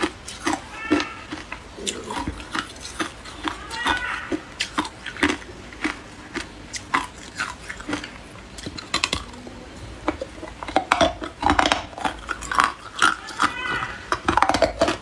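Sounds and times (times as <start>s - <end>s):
teeth crunching ice: 0.0s - 9.4s, 10.0s - 15.0s.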